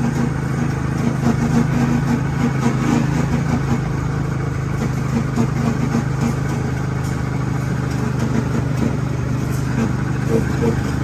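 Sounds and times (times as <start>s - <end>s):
go-kart engine humming: 0.0s - 11.0s.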